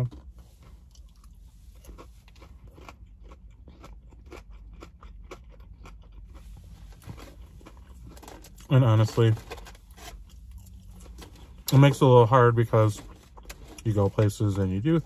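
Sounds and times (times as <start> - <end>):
person chewing crunchy food: 0.0 - 11.8, 13.0 - 14.1.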